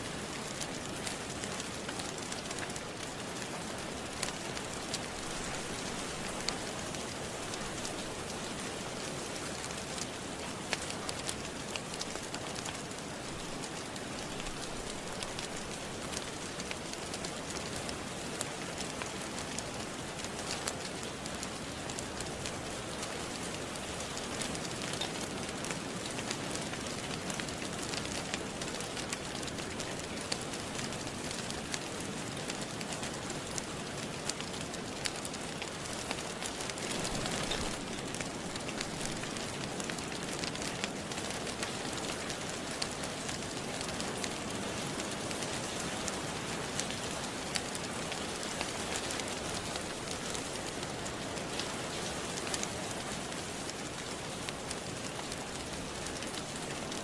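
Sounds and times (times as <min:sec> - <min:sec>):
steady rain: 0:00.0 - 0:57.0
wood fire popping and crackling: 0:00.0 - 0:57.0.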